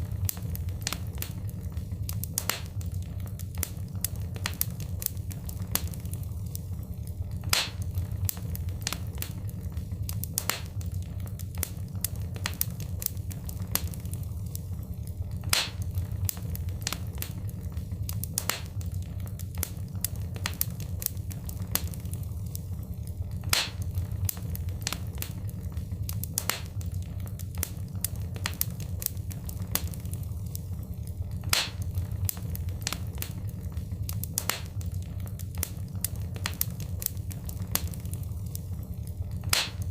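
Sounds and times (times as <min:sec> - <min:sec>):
steady low rumble: 0:00.0 - 0:39.9
wood fire crackling and popping: 0:00.0 - 0:39.9.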